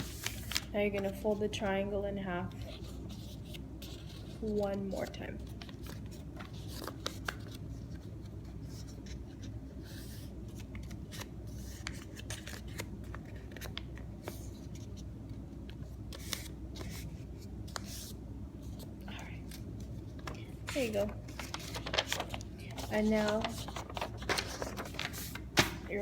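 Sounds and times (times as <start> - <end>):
paper rustling and crinkling: 0.0 - 1.4, 2.5 - 15.1, 16.1 - 26.0.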